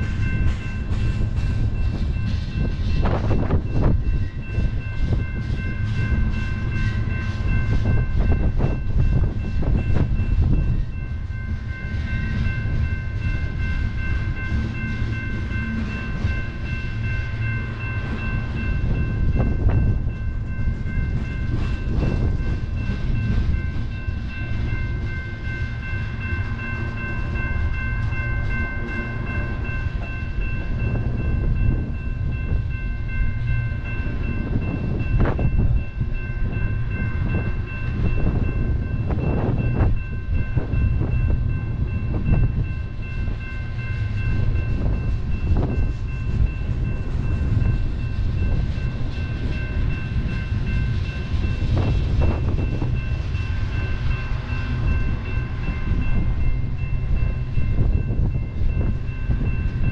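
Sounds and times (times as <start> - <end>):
crossing warning bells ringing: 0.0 - 59.9
freight train rumbling: 0.0 - 59.9.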